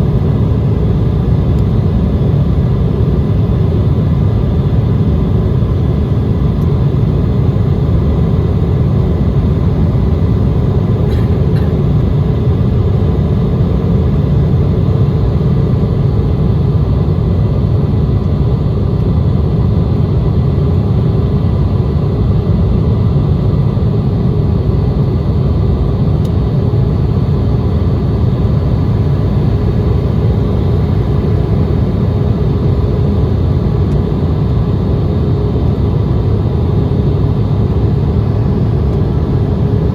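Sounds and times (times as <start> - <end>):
faint steady whining tones: 0.0 - 17.2, 24.0 - 39.9
airplane cabin engine rumble: 0.0 - 39.9.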